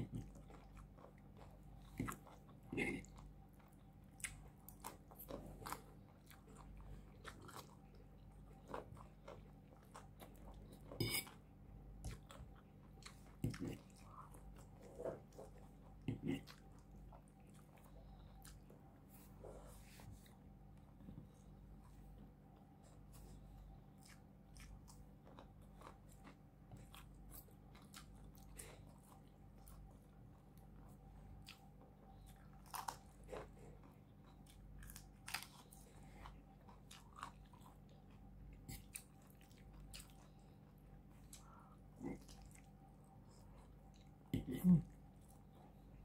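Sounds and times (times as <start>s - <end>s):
chewing and biting food: 0.0s - 19.1s, 20.3s - 46.0s
faint steady hum: 0.0s - 46.0s.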